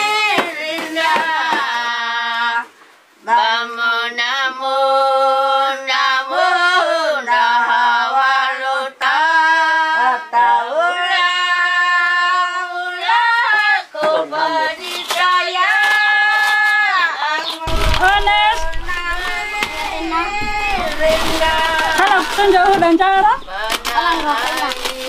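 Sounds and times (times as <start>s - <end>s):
woman singing unaccompanied: 0.0s - 25.0s.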